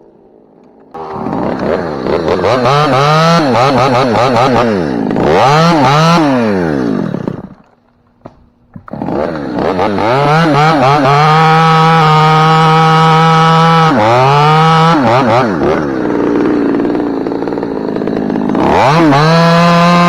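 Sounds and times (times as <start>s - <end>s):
two-stroke chainsaw revving: 0.9s - 7.6s, 8.9s - 20.0s.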